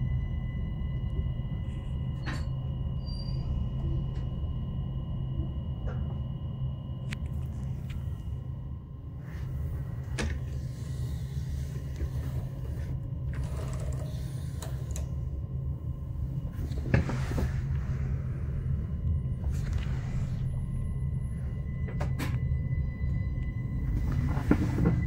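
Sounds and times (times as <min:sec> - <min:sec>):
low hum inside train car: 0:00.0 - 0:25.0.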